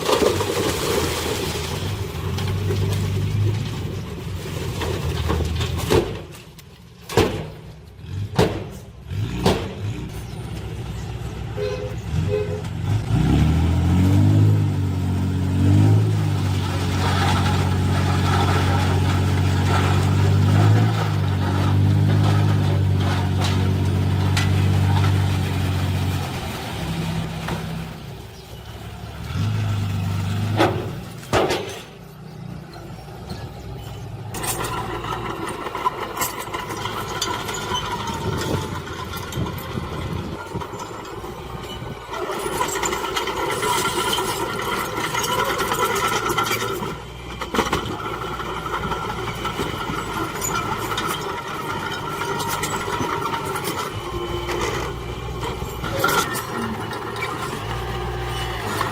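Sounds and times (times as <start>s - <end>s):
heavy diesel machines working: 0.0s - 58.9s.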